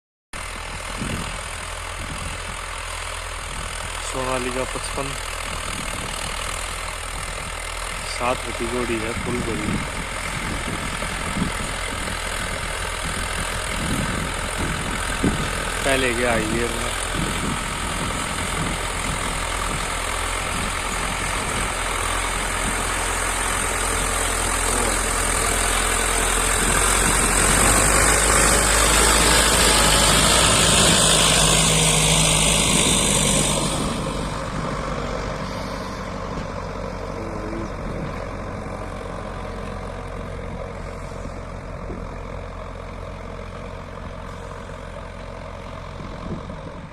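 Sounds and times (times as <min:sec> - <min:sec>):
tractor diesel engine running: 0:00.3 - 0:46.9.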